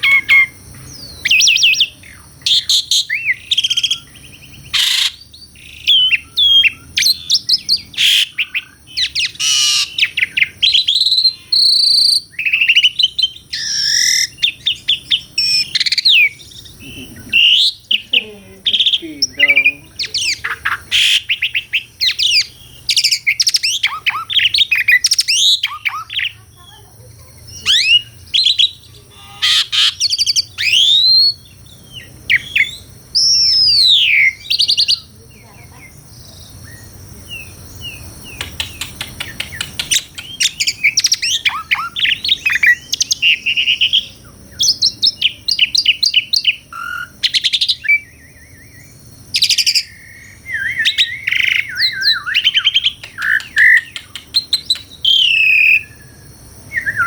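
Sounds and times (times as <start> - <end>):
starling singing varied song: 0.0 - 57.0.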